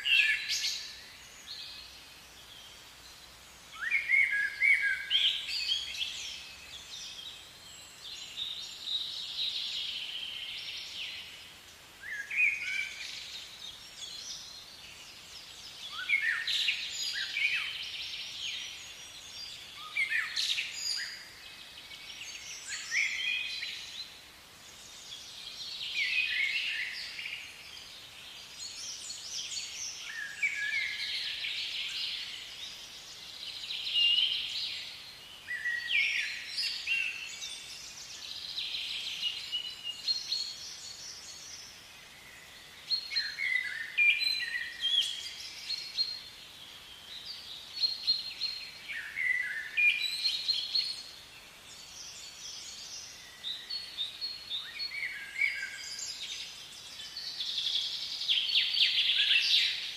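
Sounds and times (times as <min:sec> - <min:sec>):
faint outdoor background noise: 0:00.0 - 0:59.9
songbirds chirping and singing: 0:00.0 - 0:59.9.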